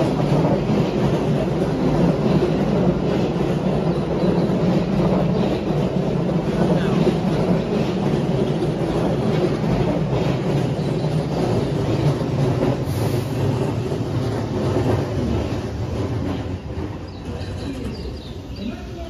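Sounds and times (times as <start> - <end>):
electric train wheels rumbling: 0.0 - 19.0.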